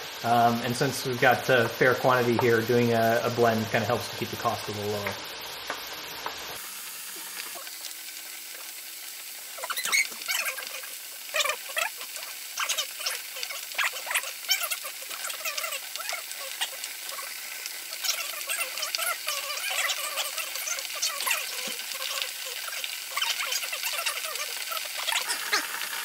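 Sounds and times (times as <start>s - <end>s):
potatoes sizzling in hot oil: 0.0s - 26.0s
oil crackling and popping: 0.2s - 26.0s.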